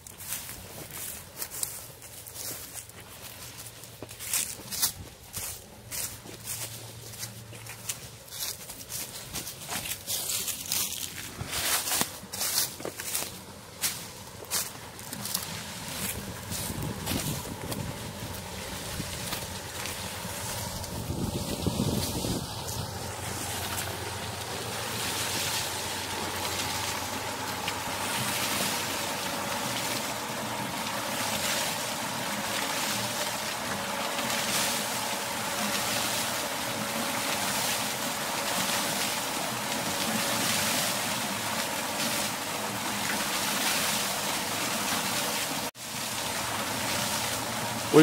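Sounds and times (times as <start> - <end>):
water pouring onto water wheel: 0.0 - 48.0.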